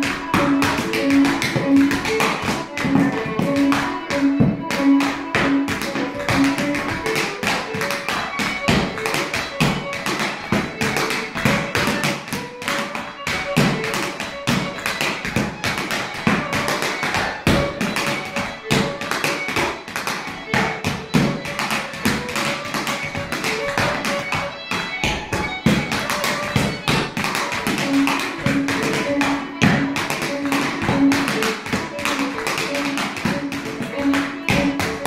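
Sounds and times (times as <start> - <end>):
accompanying music: 0.0 - 35.0
dance shoes tapping on boards: 0.0 - 35.0
heavy foot stamps: 0.0 - 35.0.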